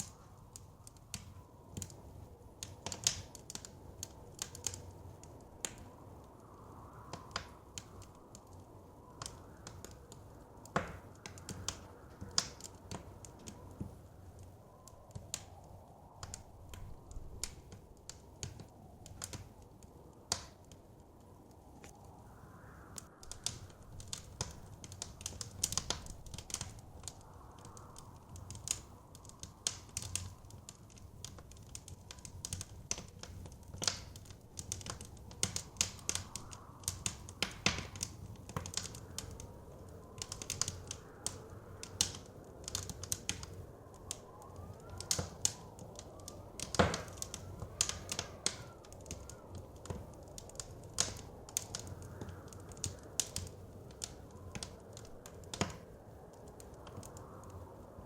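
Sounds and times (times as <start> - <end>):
blizzard wind whistling: 0.0 - 58.0
wood fire crackling: 0.0 - 58.0.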